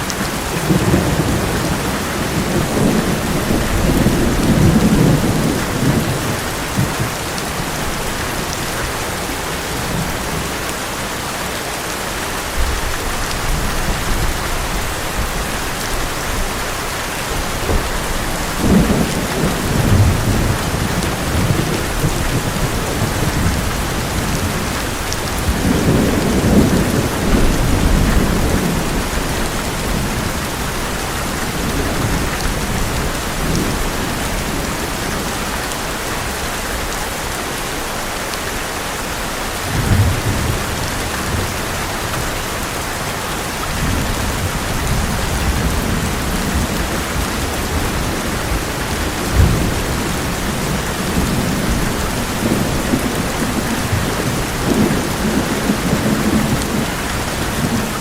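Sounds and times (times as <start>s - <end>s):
heavy rain on metal roof: 0.0s - 58.0s
thunder rumbling: 0.3s - 8.9s, 12.6s - 37.0s, 43.5s - 58.0s.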